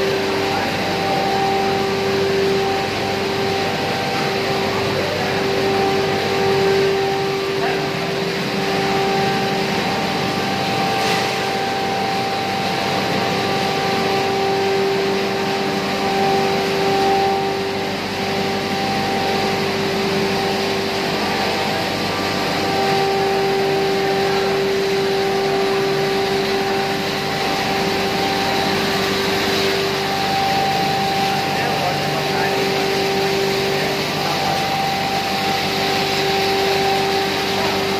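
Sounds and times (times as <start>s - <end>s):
grinding mill machine drone: 0.0s - 37.9s.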